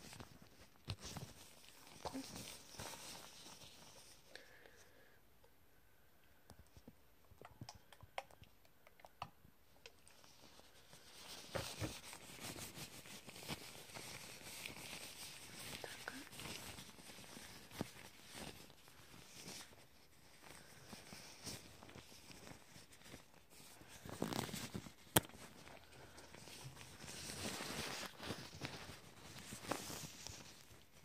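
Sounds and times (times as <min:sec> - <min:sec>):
tissue rustling on microphone: 0:00.0 - 0:04.3, 0:10.1 - 0:31.0.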